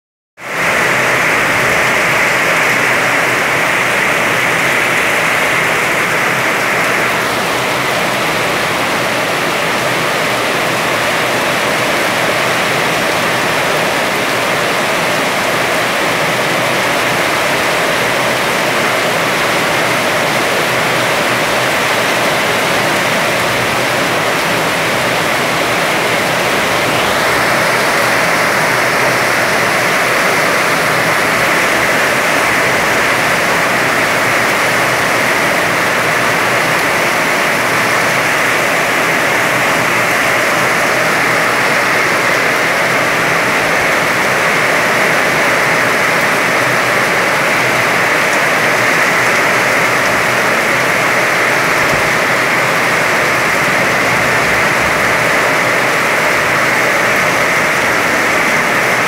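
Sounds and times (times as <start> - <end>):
heavy rain pouring: 0.4 - 59.0.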